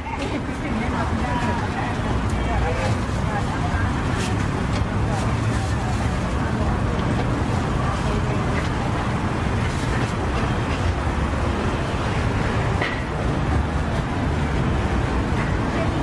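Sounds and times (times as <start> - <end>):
busy market background rumble: 0.0 - 16.0.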